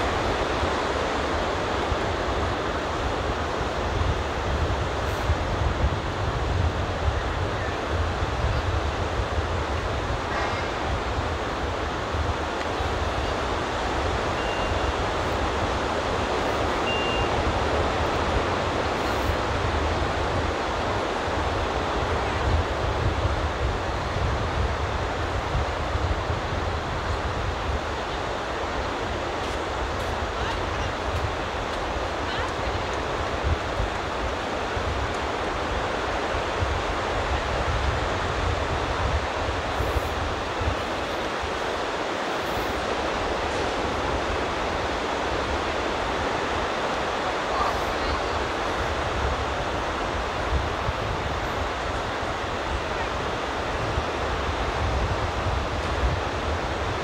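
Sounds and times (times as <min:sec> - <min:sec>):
surf on sandy beach: 0:00.0 - 0:57.0
wind noise on microphone: 0:00.0 - 0:57.0.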